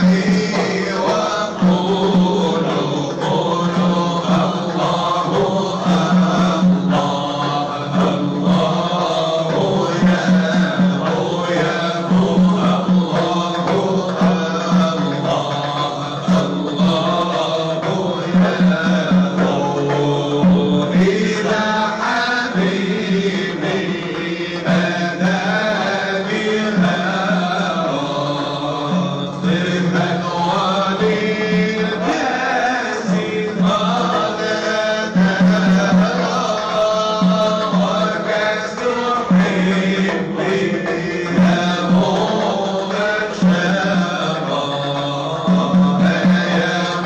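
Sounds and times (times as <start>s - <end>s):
lead voices singing melody: 0.0s - 47.0s
men chanting low steady note: 0.0s - 47.0s.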